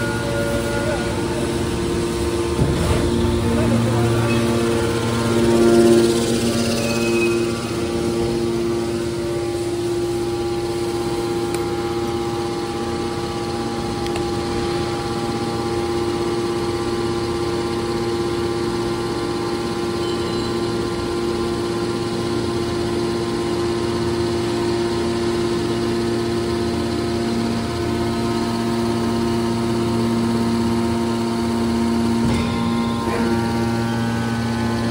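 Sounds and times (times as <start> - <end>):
baler hydraulic pump humming: 0.0 - 34.9.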